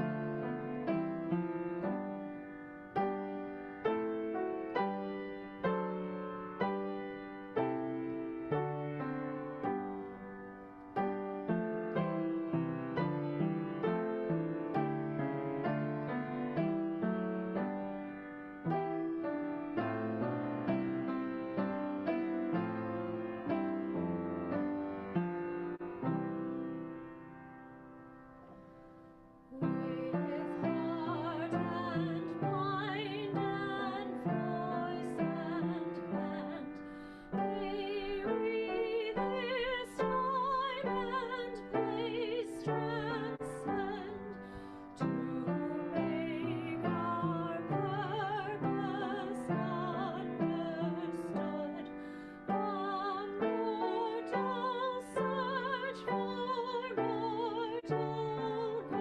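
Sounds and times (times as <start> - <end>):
piano accompaniment: 0.0 - 59.0.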